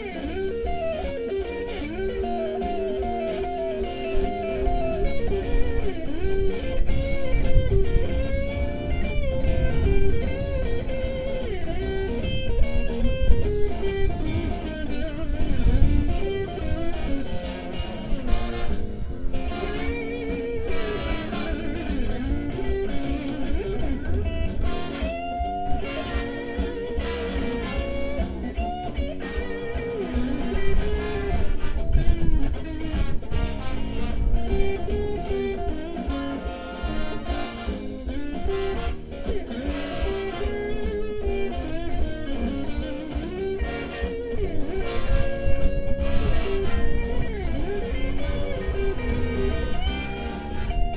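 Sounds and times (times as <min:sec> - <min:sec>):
electric guitar lead with bending notes: 0:00.0 - 0:50.9
live blues band music: 0:00.0 - 0:50.9.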